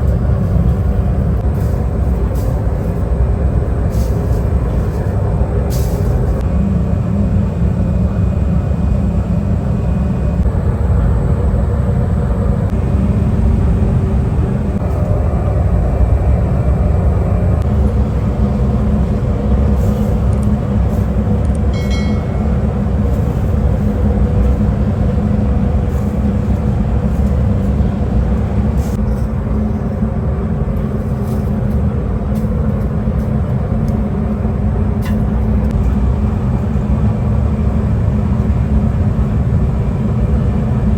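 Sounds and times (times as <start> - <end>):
factory machinery droning: 0.0 - 40.9.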